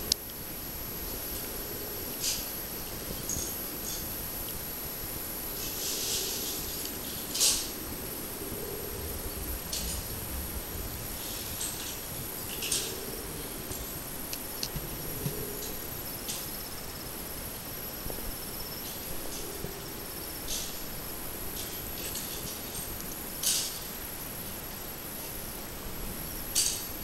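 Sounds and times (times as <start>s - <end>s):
insects chirping: 0.0s - 27.0s
steady high hiss: 0.0s - 27.0s.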